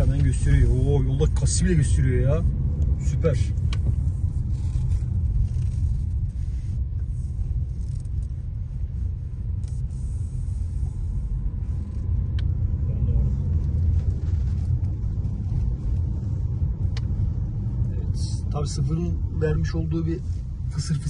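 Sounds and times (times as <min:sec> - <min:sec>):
car engine rumble in cabin: 0:00.0 - 0:21.0.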